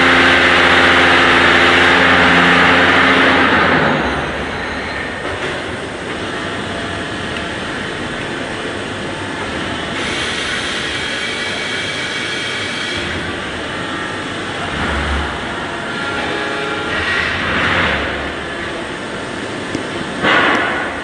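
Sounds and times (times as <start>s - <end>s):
paving block machine rumbling: 0.0s - 21.0s.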